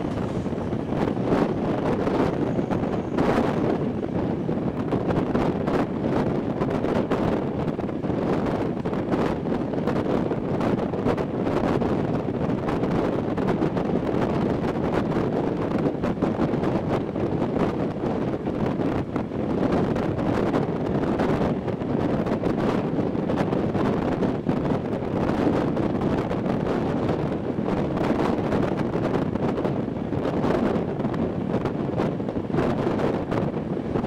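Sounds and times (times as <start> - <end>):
train rolling on track: 0.0 - 34.0
wind buffeting microphone: 0.0 - 34.0.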